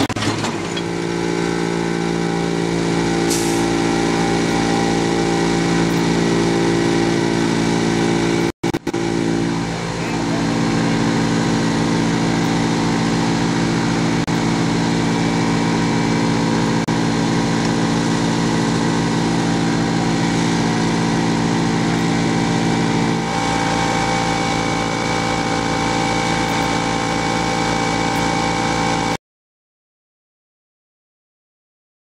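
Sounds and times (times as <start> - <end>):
industrial vacuum engine running: 0.0 - 29.2.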